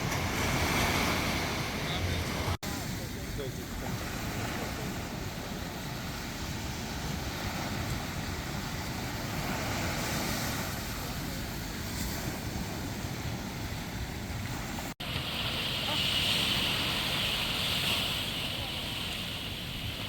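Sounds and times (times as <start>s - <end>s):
ocean surf on shore: 0.0s - 20.0s
wind rumbling on microphone: 0.0s - 20.0s.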